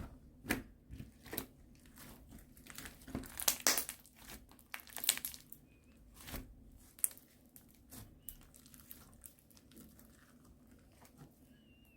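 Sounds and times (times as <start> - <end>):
slime squishing: 0.0 - 11.4
slime crackling: 1.2 - 11.2.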